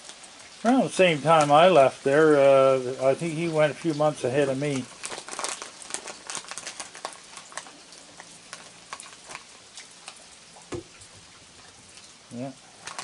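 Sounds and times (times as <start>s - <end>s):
rain pattering and dripping: 0.0s - 13.0s.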